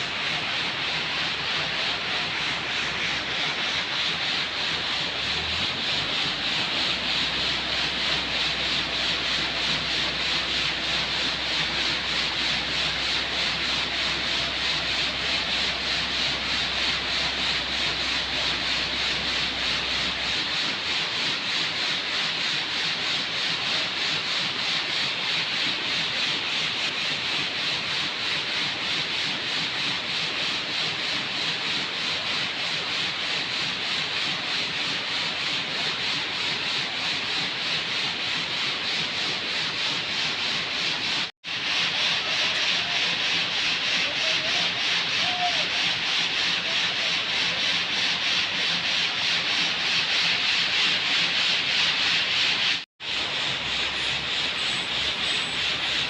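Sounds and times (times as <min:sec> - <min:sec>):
rasping hissing work noise: 0:00.0 - 0:56.0.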